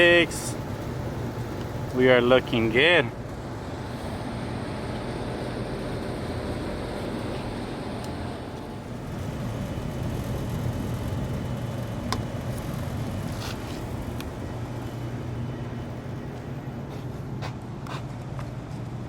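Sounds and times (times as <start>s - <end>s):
air conditioning unit humming: 0.0s - 19.0s.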